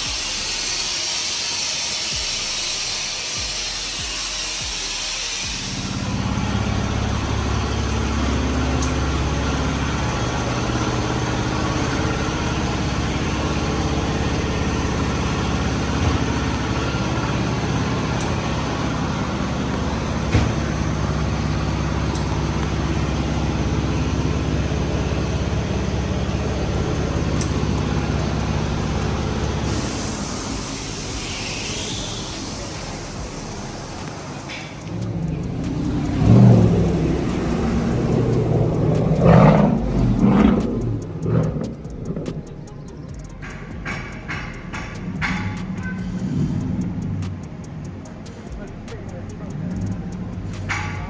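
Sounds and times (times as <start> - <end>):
vehicle engine rumbling: 2.2 - 51.0.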